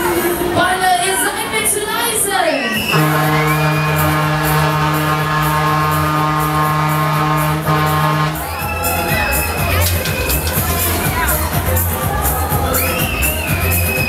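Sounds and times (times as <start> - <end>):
loud dance music: 0.0 - 14.0.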